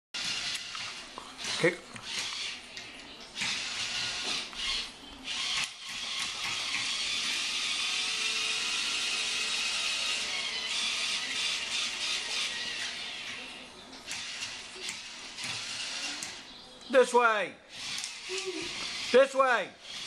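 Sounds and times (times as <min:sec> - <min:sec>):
toy motor and gears whirring: 0:00.2 - 0:16.5, 0:17.7 - 0:20.0.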